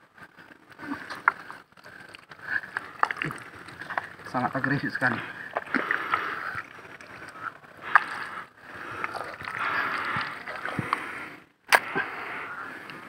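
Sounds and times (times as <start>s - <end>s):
hands squelching through mud: 0.8s - 12.3s.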